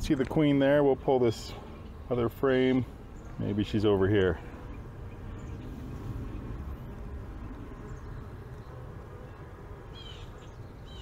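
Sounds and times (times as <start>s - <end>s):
honeybees buzzing: 1.0s - 10.8s
bird chirp: 1.3s - 11.0s.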